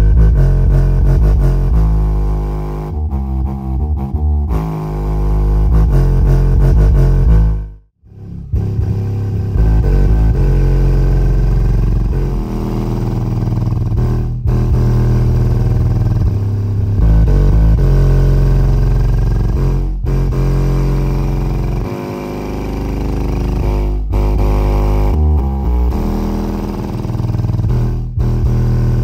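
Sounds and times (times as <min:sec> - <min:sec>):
subwoofer playing bass-heavy music: 0:00.0 - 0:29.0.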